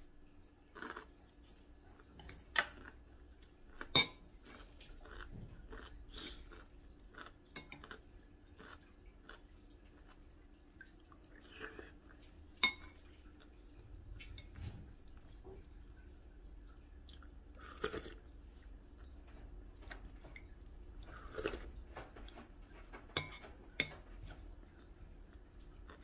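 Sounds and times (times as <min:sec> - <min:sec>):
quiet chewing: 0:00.1 - 0:26.0.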